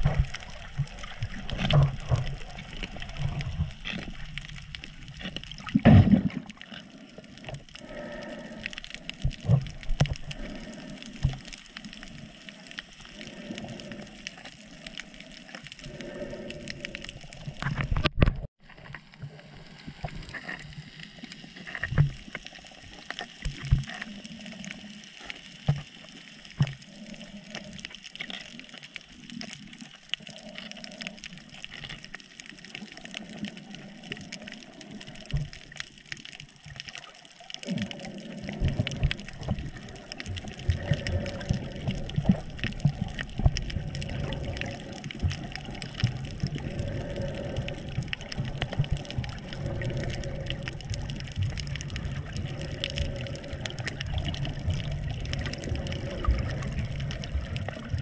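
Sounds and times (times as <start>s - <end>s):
water sloshing and bubbling: 0.0s - 58.0s.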